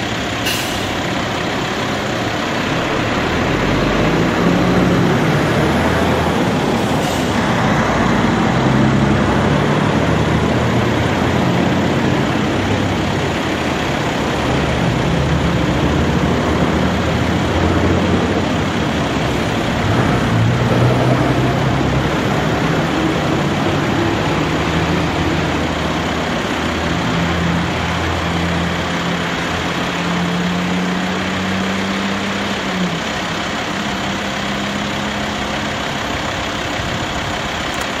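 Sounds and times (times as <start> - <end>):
road noise rush: 0.0 - 38.0
truck diesel engine under load: 0.0 - 38.0.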